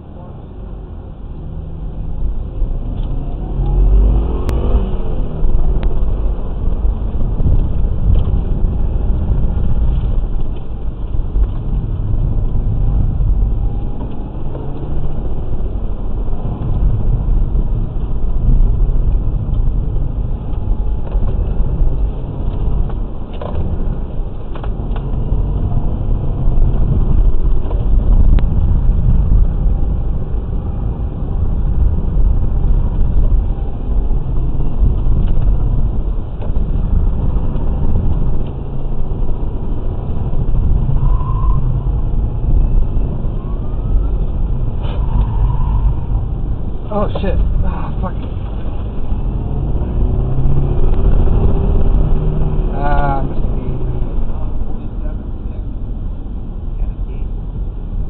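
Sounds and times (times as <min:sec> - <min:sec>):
car engine revving: 0:01.6 - 0:57.8.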